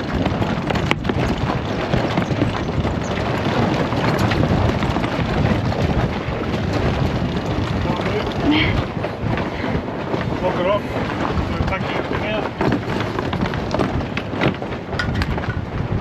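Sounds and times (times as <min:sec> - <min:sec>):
water rushing along hull: 0:00.0 - 0:16.0
wind over microphone: 0:00.0 - 0:16.0.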